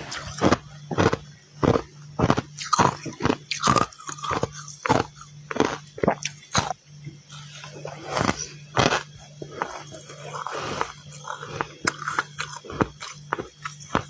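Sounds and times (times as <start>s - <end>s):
chewing crunchy frost: 0.0s - 14.0s.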